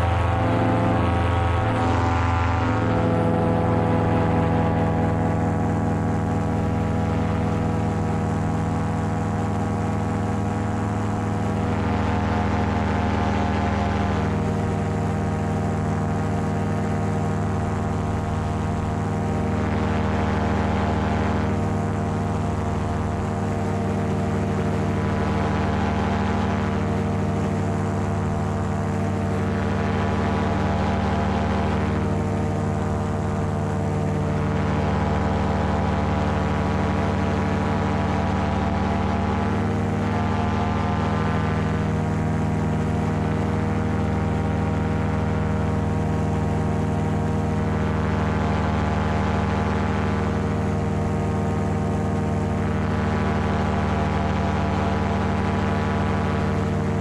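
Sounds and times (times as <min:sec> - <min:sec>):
paramotor engine droning: 0:00.0 - 0:57.0.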